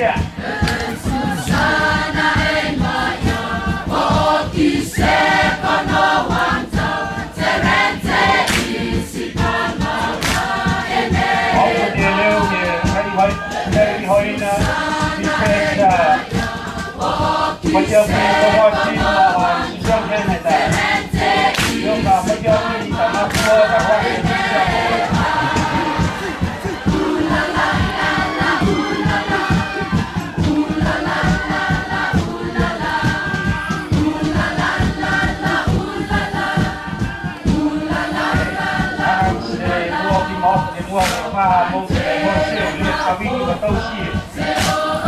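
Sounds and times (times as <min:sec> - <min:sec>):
group singing in chorus: 0:00.0 - 0:45.0
percussive beat: 0:00.0 - 0:45.0.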